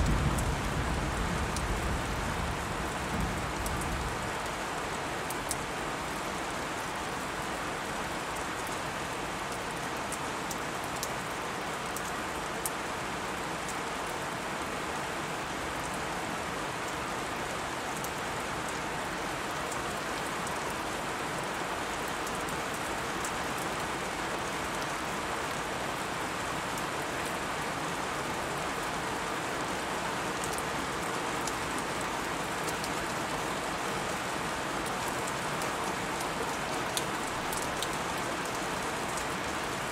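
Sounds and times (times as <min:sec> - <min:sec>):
faint ticks of raindrops: 0:00.0 - 0:39.9
steady rain hiss: 0:00.0 - 0:39.9.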